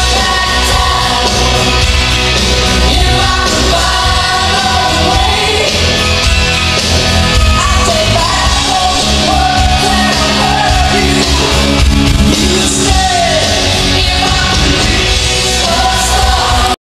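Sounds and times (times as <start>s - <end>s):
person singing: 0.0s - 6.2s, 7.2s - 16.8s
music with heavy bass: 0.0s - 16.8s.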